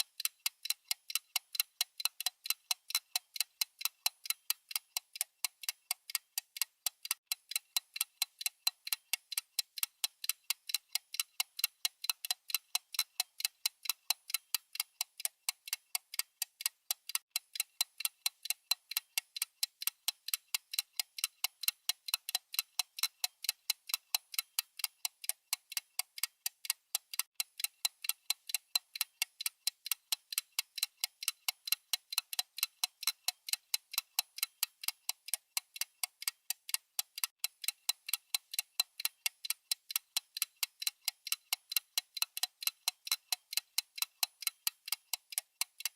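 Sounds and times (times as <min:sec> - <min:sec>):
clock ticking: 0:00.0 - 0:45.9.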